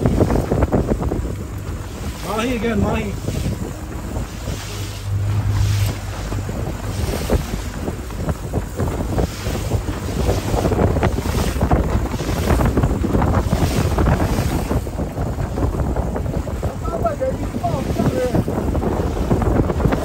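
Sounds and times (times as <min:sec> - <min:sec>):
water churning past boat: 0:00.0 - 0:20.0
wind buffeting microphone: 0:00.0 - 0:20.0.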